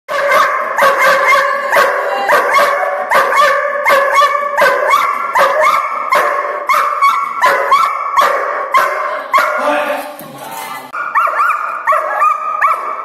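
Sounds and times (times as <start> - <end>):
dog barking rapidly: 0.1 - 9.8, 10.9 - 13.0.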